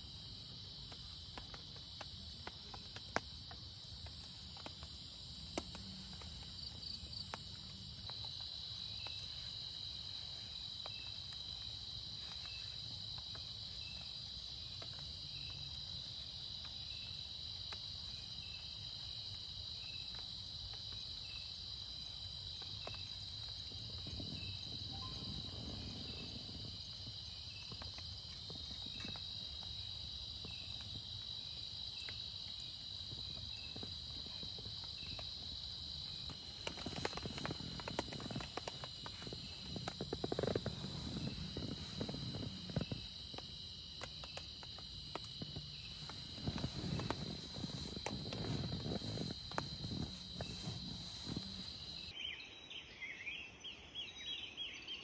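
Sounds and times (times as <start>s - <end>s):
insects trilling chorus: 0.0s - 54.9s.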